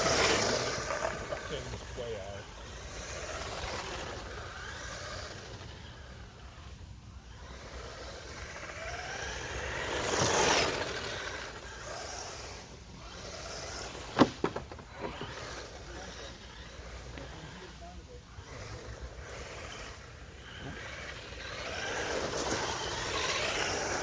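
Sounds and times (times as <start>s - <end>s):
electric motor whining: 0.0s - 24.0s
tyres on dirt: 0.0s - 24.0s.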